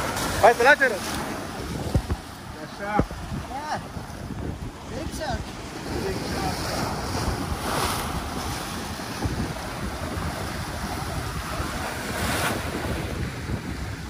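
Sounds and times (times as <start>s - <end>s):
surf breaking over rocks: 0.0s - 14.0s
wind buffeting microphone: 0.0s - 14.0s.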